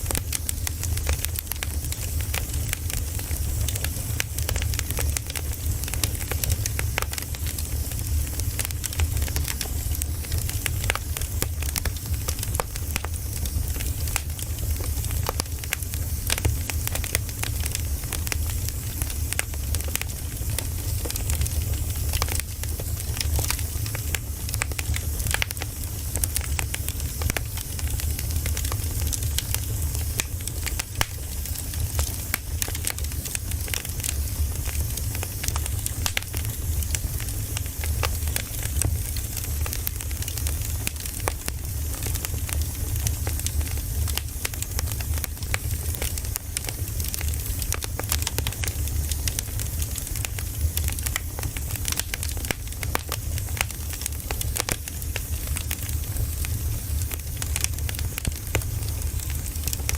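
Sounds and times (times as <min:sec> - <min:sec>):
low rumble of flames: 0:00.0 - 0:59.9
wood crackling in a fire: 0:00.0 - 0:59.9.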